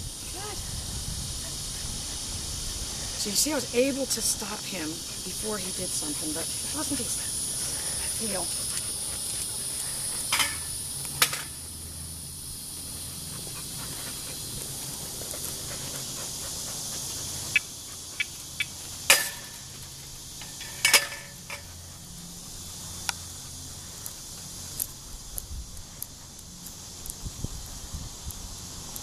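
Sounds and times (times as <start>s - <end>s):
high-pitched hiss: 0.0s - 29.0s.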